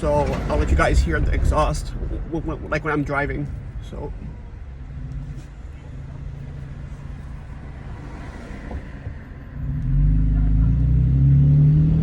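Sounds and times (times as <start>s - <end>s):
exhaust rumble while driving: 0.0s - 12.0s.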